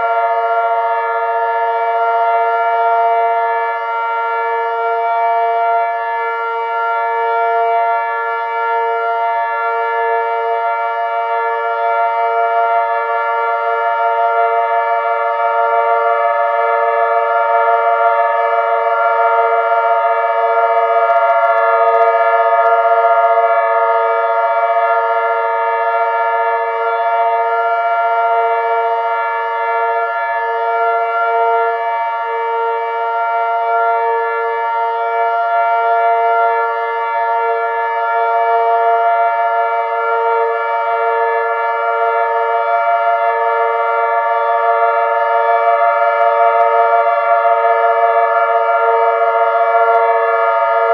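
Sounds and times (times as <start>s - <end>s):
warning sirens sounding together: 0.0s - 50.9s.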